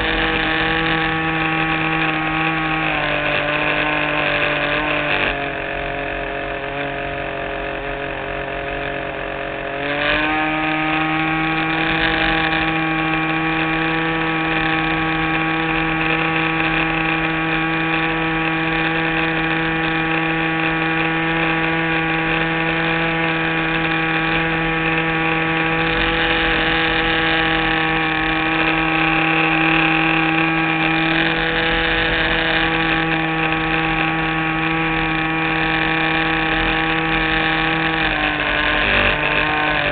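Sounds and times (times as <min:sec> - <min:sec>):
model airplane engine running: 0:00.0 - 0:39.9.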